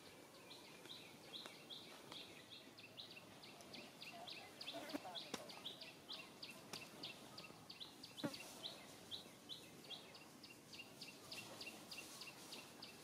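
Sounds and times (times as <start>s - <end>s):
bird chirping: 0.0s - 13.0s
faint outdoor noise: 0.0s - 13.0s.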